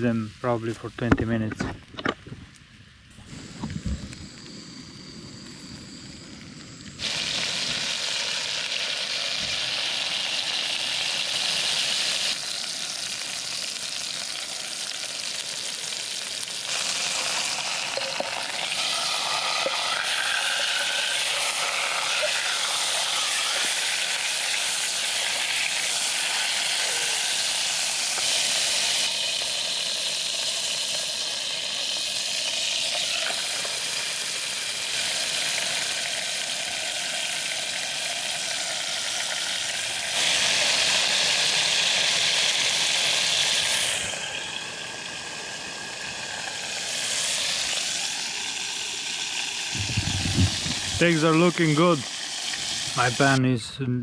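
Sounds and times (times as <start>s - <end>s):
steaks sizzling in a pan: 3.3s - 53.4s.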